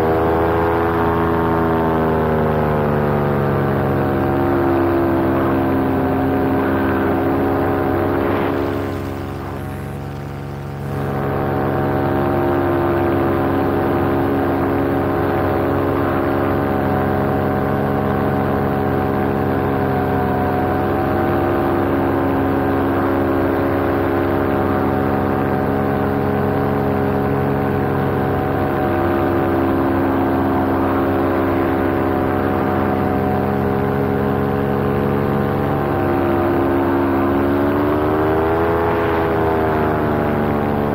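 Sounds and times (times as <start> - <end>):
paramotor engine and propeller drone: 0.0 - 40.9.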